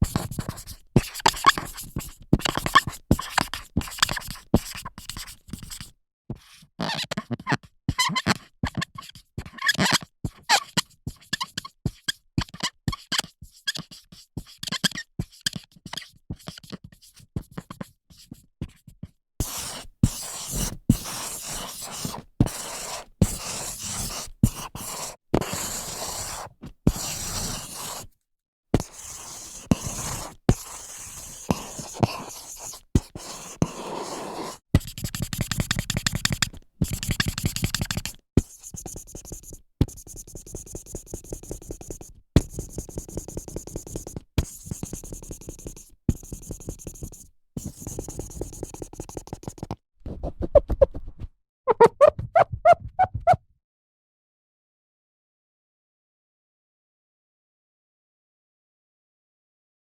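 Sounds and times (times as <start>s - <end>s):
marker writing on whiteboard: 0.0s - 5.9s, 6.8s - 18.8s, 19.4s - 28.1s, 28.8s - 53.4s.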